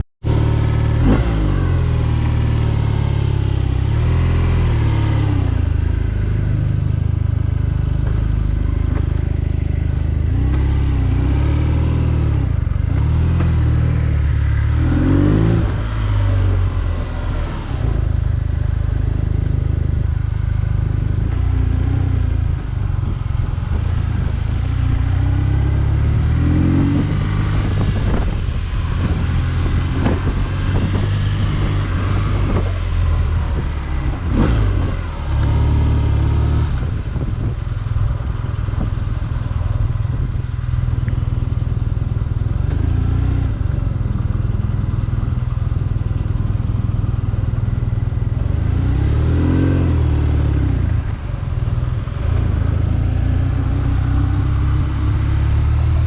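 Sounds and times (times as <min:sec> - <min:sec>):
motorcycle engine revving: 0:00.2 - 0:56.0.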